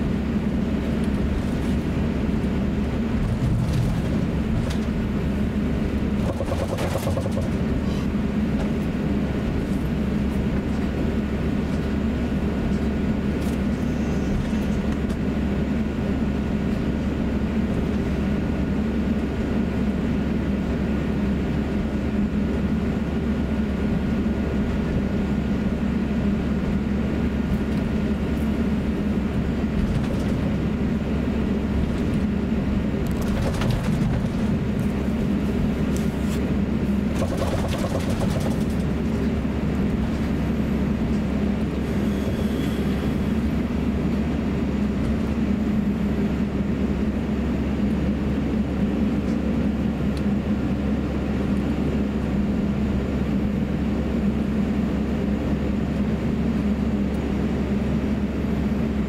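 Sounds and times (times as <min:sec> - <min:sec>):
aircraft cabin rumble and hum: 0:00.0 - 0:59.0.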